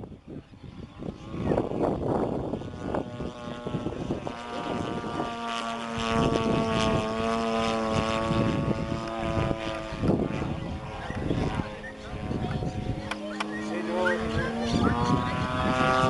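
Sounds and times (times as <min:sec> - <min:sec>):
model airplane engine and propeller: 0:00.0 - 0:16.0.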